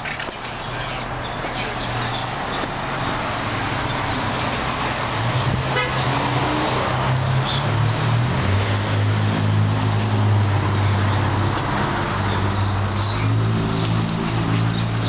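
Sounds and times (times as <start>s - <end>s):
street traffic noise: 0.0s - 15.0s
vehicle engine humming: 0.0s - 15.0s.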